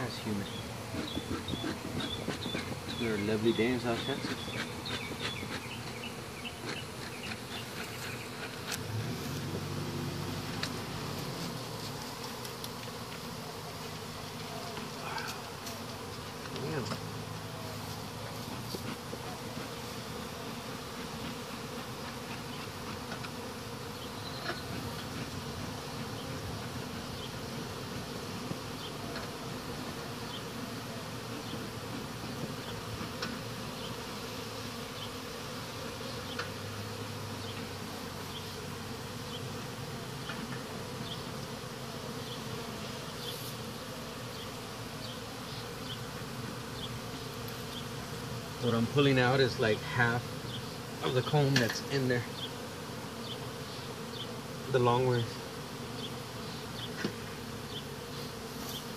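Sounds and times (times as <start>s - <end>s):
bees buzzing: 0.0s - 58.9s.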